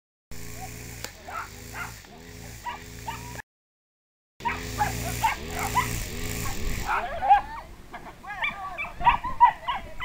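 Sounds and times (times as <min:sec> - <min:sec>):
dogs yipping and barking: 0:00.5 - 0:03.4, 0:04.4 - 0:10.0.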